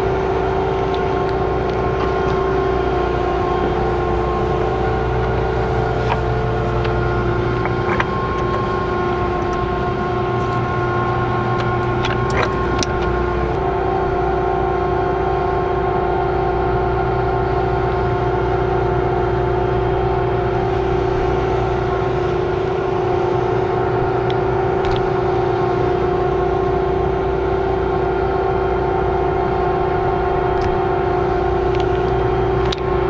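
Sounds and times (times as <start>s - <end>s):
combine harvester whine and drone: 0.0s - 33.0s.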